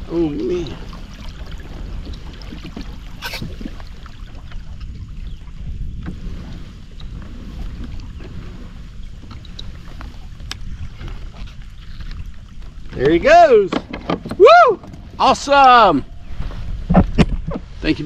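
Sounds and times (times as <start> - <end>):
water lapping at kayak: 0.0 - 18.0
wind rumbling on microphone: 0.0 - 18.0.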